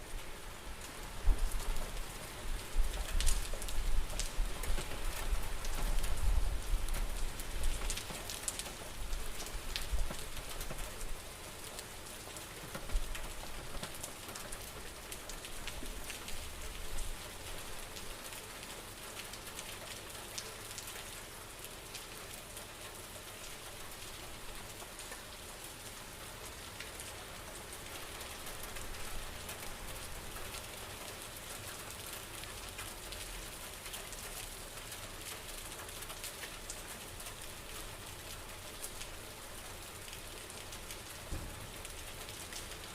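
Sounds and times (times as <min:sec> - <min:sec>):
steady rain with ticking drops: 0:00.0 - 0:42.9.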